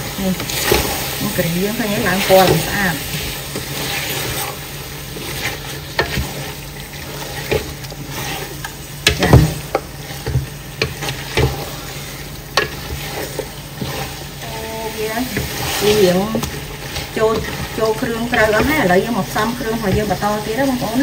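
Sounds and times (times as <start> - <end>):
meat sizzling in a pot: 0.0 - 21.0
spatula scraping a pot: 1.9 - 14.4, 15.2 - 21.0.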